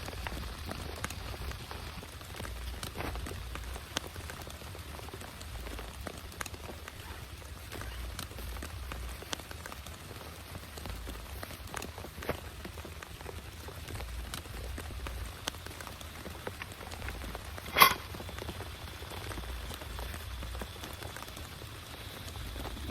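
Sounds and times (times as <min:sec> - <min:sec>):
rain drops tapping: 0:00.0 - 0:22.9.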